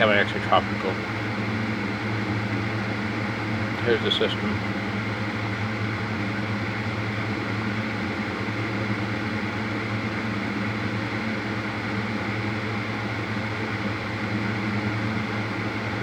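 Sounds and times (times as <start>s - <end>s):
fan-like machine humming: 0.0s - 16.0s.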